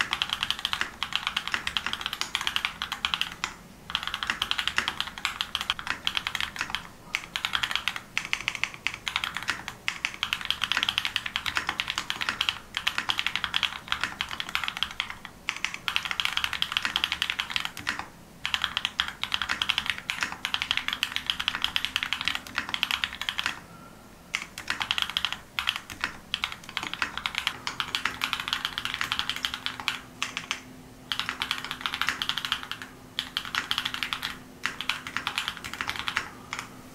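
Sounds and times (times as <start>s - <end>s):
mechanical keyboard typing: 0.0s - 23.6s, 24.3s - 36.7s.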